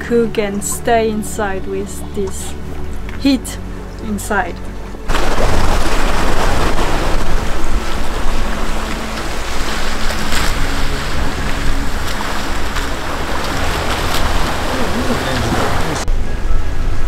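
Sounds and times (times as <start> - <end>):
low rumble: 0.0 - 17.0
water rushing: 0.0 - 17.0
wind buffeting microphone: 0.2 - 17.0
waves slapping hull: 0.6 - 16.1.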